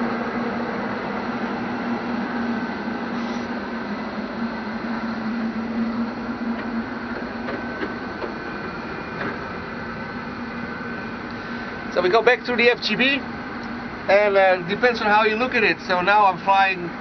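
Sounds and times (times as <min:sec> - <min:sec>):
low hum: 0:00.0 - 0:17.0
ventilation fans whirring: 0:00.0 - 0:17.0.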